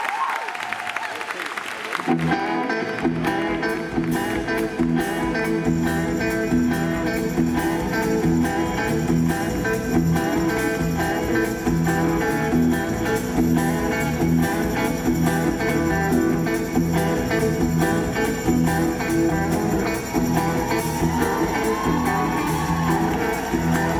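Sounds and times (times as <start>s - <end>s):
electric guitar: 1.9s - 23.9s
live band playing: 2.1s - 23.9s.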